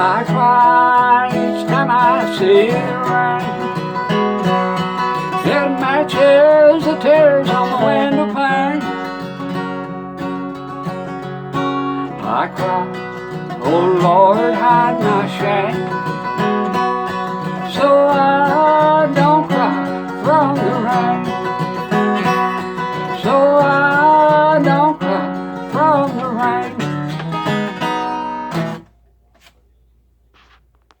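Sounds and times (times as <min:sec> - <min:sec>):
lead melody with sliding notes: 0:00.0 - 0:28.9
acoustic guitar strumming: 0:00.0 - 0:29.1.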